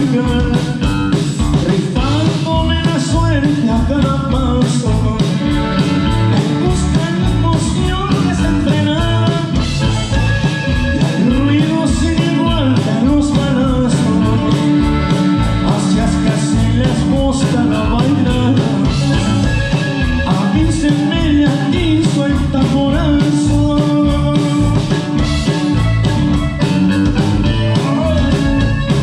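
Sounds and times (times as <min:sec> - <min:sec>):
acoustic guitar: 0:00.0 - 0:29.0
electric bass: 0:00.0 - 0:29.0
steady drumbeat: 0:00.0 - 0:29.0
button accordion: 0:04.6 - 0:29.0.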